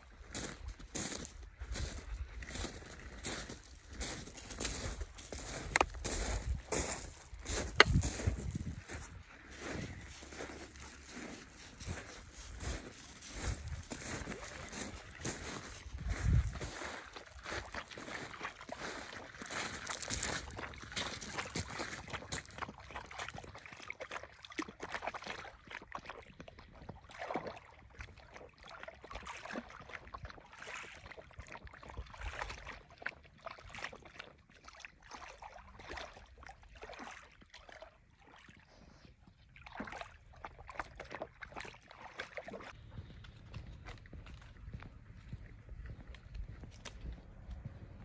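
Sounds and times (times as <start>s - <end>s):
dog wading splashing water: 0.0s - 48.0s.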